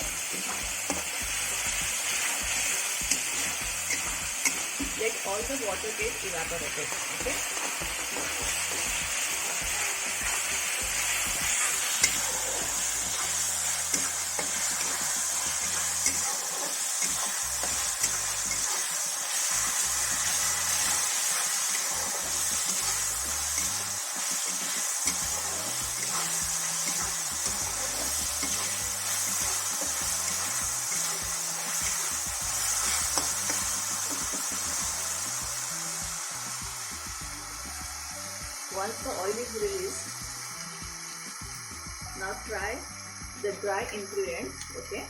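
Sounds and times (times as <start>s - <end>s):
paste sizzling in hot oil: 0.0s - 45.0s.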